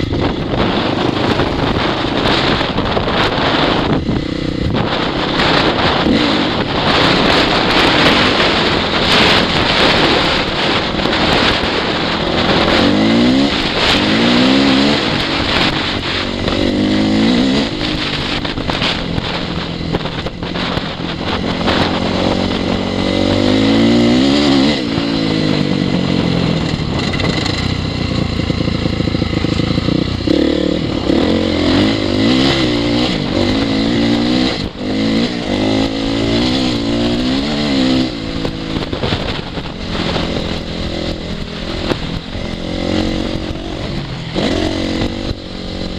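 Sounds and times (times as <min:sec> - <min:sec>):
motorcycle engine revving: 0:00.0 - 0:45.9
wind on microphone: 0:00.0 - 0:45.9.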